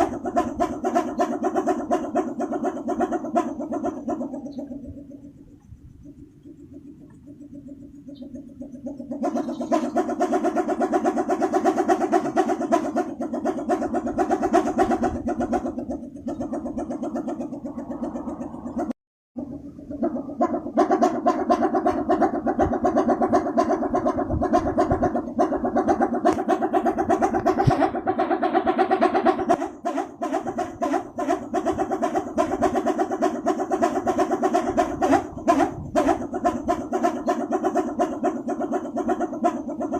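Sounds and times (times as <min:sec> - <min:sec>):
wooden propeller pulsing drone: 0:00.0 - 0:39.9.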